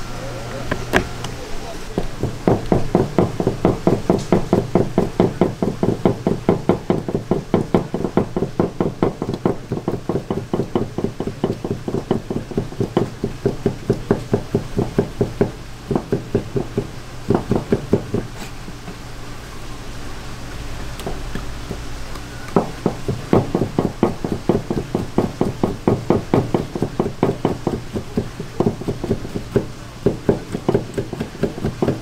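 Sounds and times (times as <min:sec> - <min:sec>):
knife chopping on cutting board: 0:02.0 - 0:18.6, 0:22.6 - 0:32.0.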